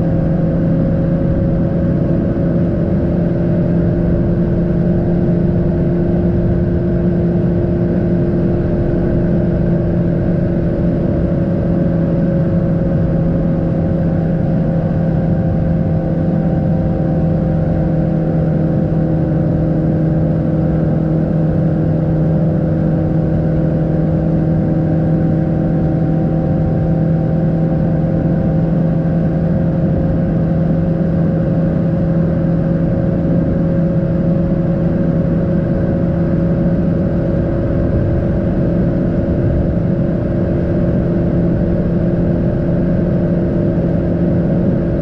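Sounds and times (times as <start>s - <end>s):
car engine drone: 0.0s - 45.0s
road and wind noise: 0.0s - 45.0s.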